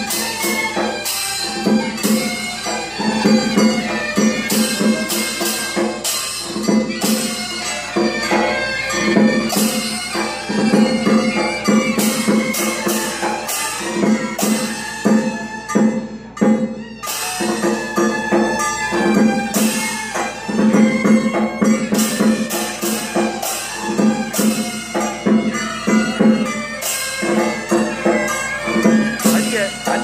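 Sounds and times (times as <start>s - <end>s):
gongs ringing: 0.0s - 30.0s
hand cymbals: 0.0s - 30.0s.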